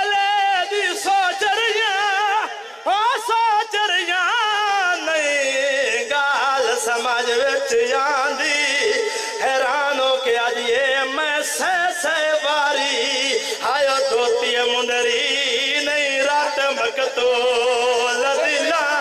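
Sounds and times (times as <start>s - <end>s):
man chanting through microphone: 0.0s - 19.0s.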